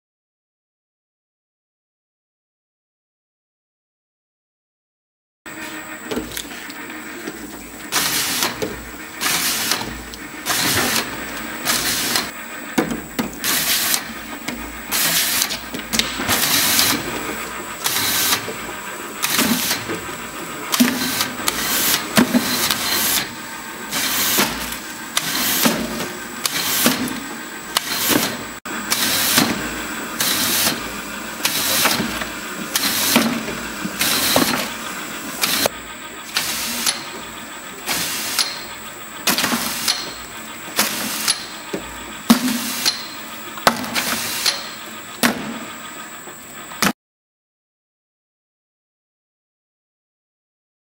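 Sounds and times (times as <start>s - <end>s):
labelling machine running: 5.5s - 46.9s.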